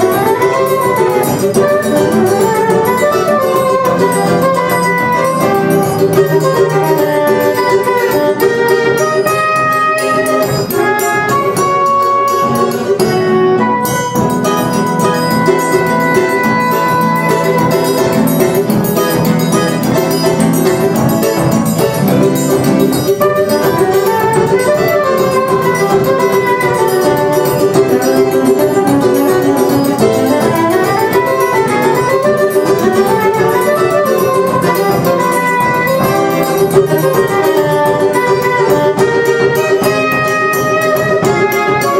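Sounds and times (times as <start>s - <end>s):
acoustic guitar: 0.0s - 41.9s
cavaquinho: 0.0s - 41.9s
percussion: 0.0s - 41.9s
soprano saxophone melody: 0.0s - 41.9s.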